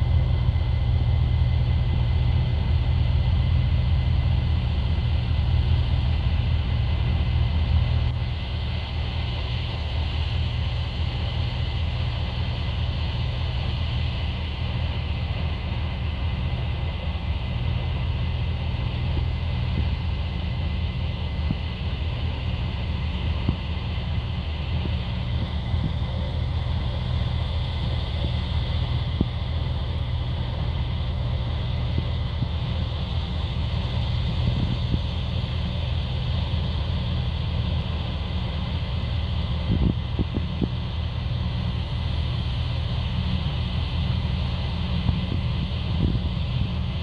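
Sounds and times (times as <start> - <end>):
combine harvester diesel drone: 0.0 - 47.0.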